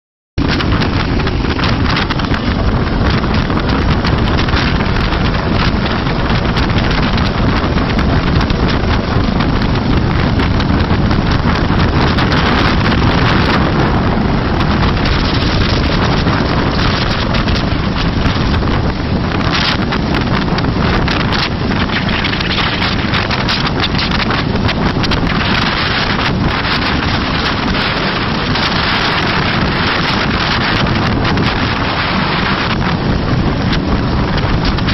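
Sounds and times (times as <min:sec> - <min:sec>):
helicopter running: 0:00.4 - 0:34.9
wind buffeting microphone: 0:00.4 - 0:34.9.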